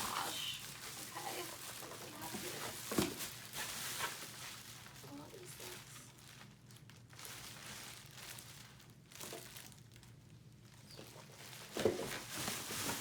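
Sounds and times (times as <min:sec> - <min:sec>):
food packaging rustling: 0:00.0 - 0:13.0.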